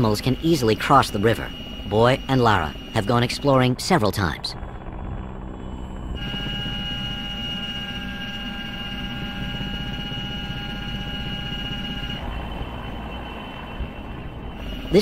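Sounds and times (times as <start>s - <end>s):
helicopter rotor rumble: 0.0s - 15.0s
helicopter turbine whine: 0.0s - 15.0s.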